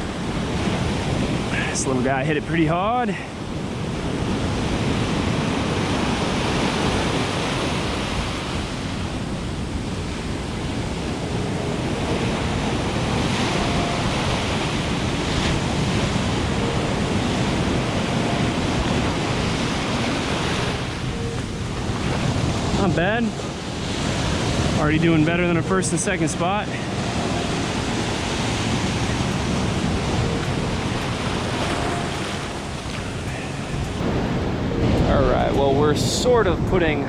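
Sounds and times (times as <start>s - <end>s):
ocean surf breaking on beach: 0.0s - 37.0s
wind buffeting microphone: 0.0s - 37.0s.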